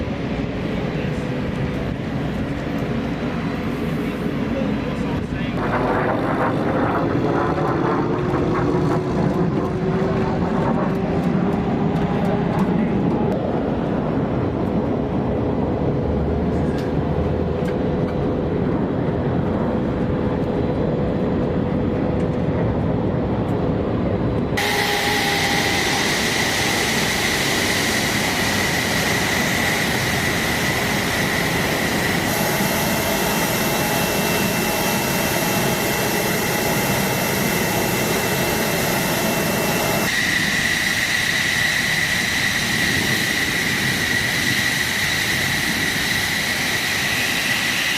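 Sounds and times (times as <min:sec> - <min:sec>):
jet engine with high whine: 0:00.0 - 0:47.9.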